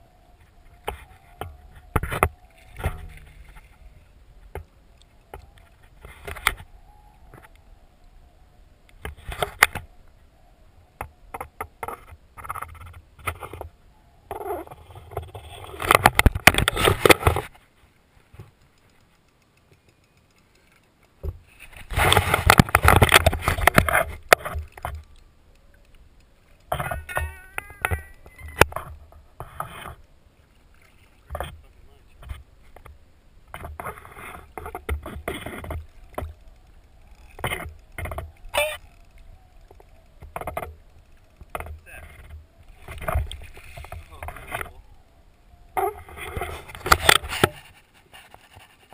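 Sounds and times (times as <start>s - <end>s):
water splashing against kayak: 0.3s - 7.8s, 10.9s - 48.9s.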